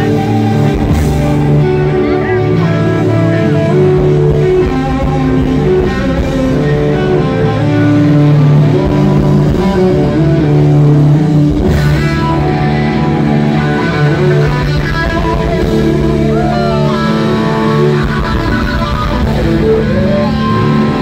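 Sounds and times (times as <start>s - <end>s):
electric guitar: 0.0s - 21.0s
rock band playing: 0.0s - 21.0s.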